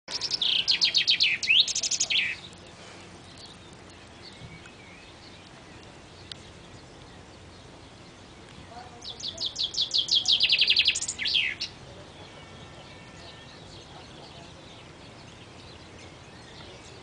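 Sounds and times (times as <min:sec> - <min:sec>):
faint outdoor background: 0:00.1 - 0:17.0
songbird singing: 0:00.1 - 0:17.0.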